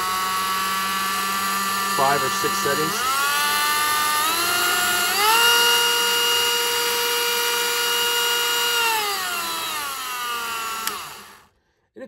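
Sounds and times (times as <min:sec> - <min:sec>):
rotary tool whining: 0:00.0 - 0:11.5.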